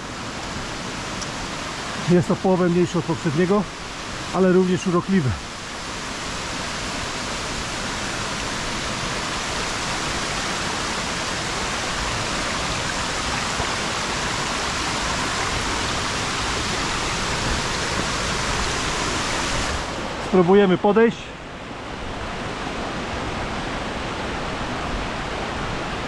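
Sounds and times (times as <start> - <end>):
waterfall and stream running: 0.0 - 26.0.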